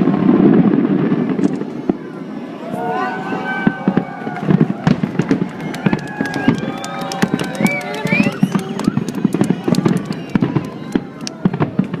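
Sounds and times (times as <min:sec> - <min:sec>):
fireworks pops and crackles: 0:00.0 - 0:02.0, 0:03.6 - 0:12.0
fireworks low bangs: 0:00.0 - 0:12.0
whistling fireworks gliding: 0:00.0 - 0:12.0.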